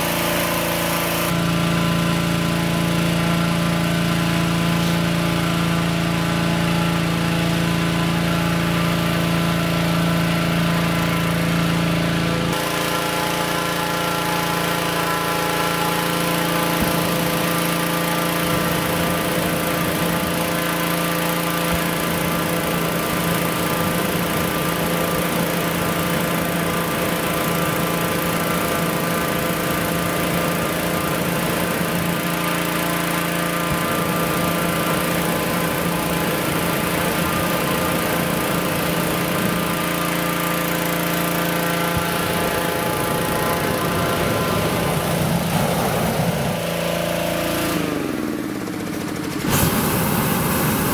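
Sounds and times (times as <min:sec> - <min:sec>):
engine-driven fan running: 0:00.0 - 0:50.9.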